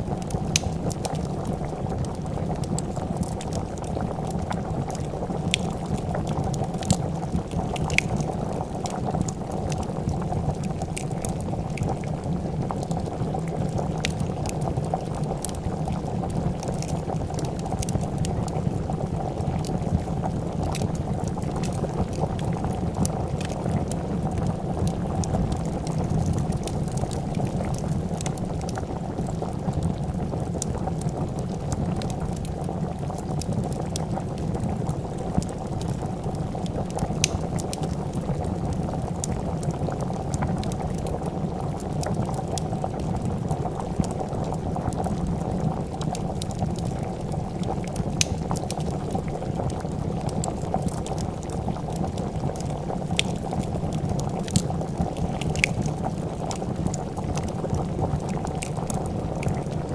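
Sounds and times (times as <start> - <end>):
soup bubbling: 0.0 - 59.9
wood fire crackling: 0.0 - 59.9.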